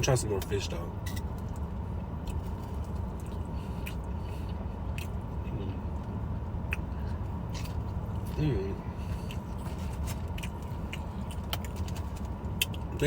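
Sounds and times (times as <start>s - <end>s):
steady low rumble: 0.0s - 13.0s
person chewing food: 1.3s - 12.9s.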